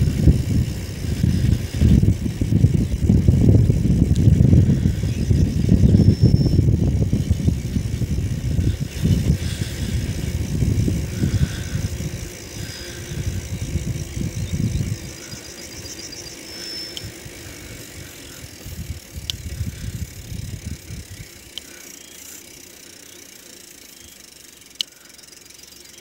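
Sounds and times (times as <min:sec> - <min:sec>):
wind rumbling on microphone: 0:00.0 - 0:21.5
bicycle freewheel ticking: 0:00.0 - 0:26.0
bicycle riding on asphalt: 0:00.0 - 0:26.0.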